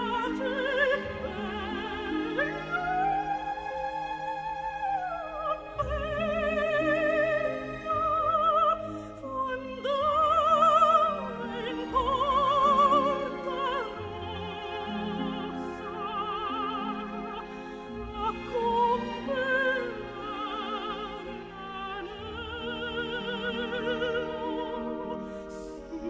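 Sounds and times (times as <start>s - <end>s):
operatic high voice singing: 0.0s - 26.0s
orchestral accompaniment: 0.0s - 26.0s.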